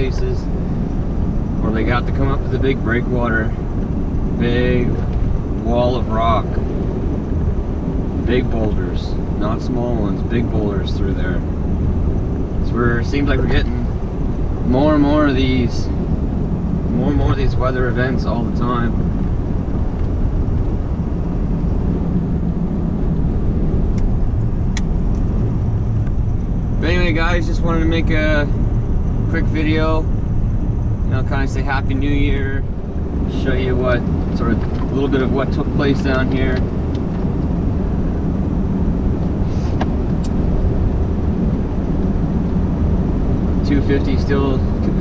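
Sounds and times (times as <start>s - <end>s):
diesel truck engine rumble: 0.0s - 45.0s
tyres on the road: 0.0s - 45.0s.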